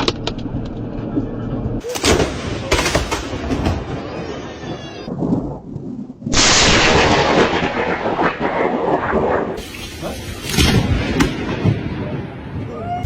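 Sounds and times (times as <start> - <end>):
loud thunder crack and rumble: 2.0 - 13.0.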